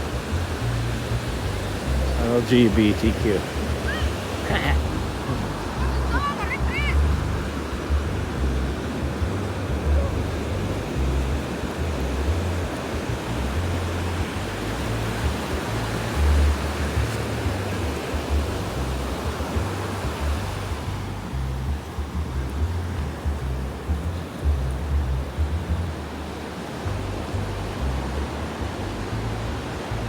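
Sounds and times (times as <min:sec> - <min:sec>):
ocean surf washing ashore: 0:00.0 - 0:30.0
wind buffeting microphone: 0:00.0 - 0:30.0.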